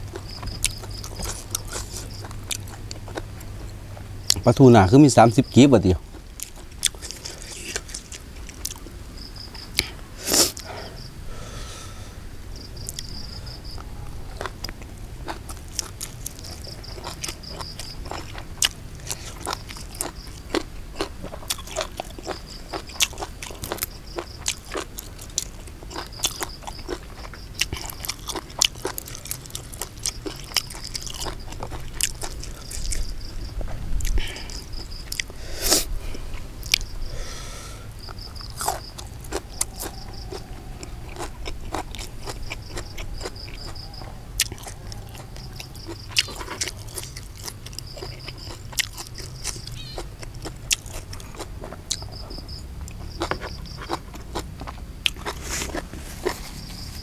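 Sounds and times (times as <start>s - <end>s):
wet chewing and crunching: 0.0s - 11.1s, 12.6s - 37.1s, 37.9s - 57.0s.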